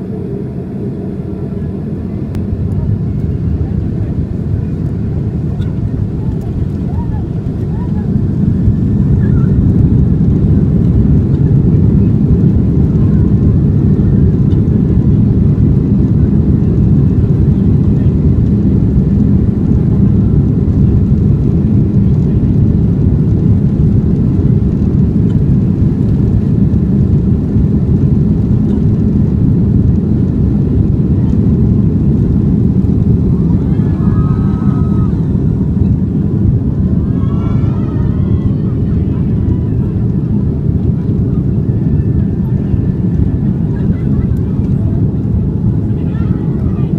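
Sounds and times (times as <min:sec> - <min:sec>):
airplane engines rumbling: 0:00.0 - 0:46.9.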